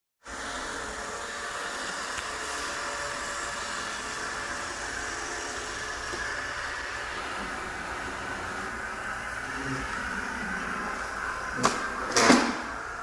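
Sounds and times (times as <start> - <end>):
robot vacuum cleaner whirring: 0.2 - 13.0.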